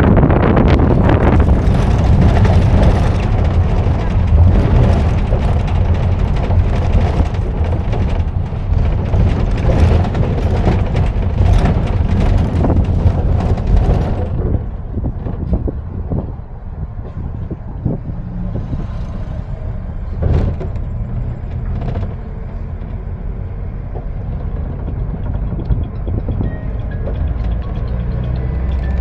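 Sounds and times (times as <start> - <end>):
vehicle driving rumble: 0.0 - 29.0
wind buffeting microphone: 0.0 - 29.0.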